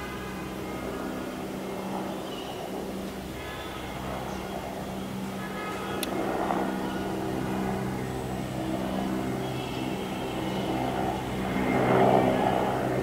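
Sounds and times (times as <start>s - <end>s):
helicopter flying overhead: 0.0s - 13.0s.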